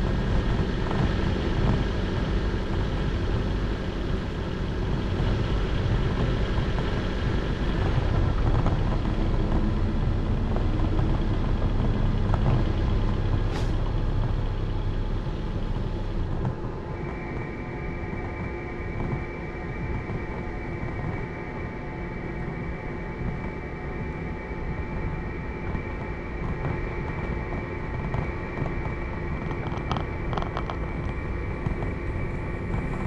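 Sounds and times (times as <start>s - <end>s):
high-pitched whine: 0.0s - 33.0s
machine running noise: 0.0s - 33.0s.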